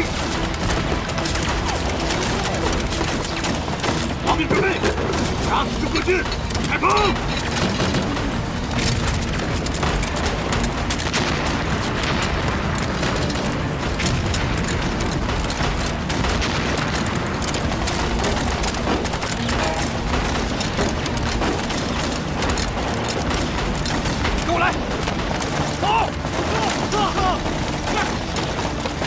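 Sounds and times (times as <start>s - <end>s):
booming explosions: 0.0s - 29.0s
rifle and machine-gun fire: 0.0s - 29.0s.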